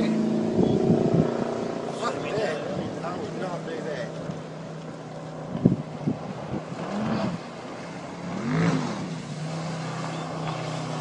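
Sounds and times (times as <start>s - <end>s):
speedboat motor revving: 0.0s - 11.0s.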